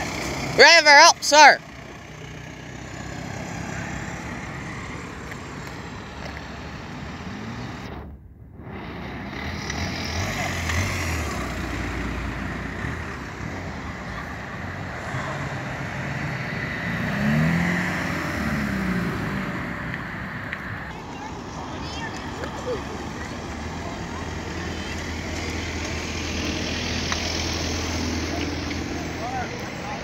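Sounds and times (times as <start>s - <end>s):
car engines rumbling past: 0.0s - 30.0s
engine revving: 1.6s - 5.2s, 6.7s - 20.9s, 22.9s - 30.0s.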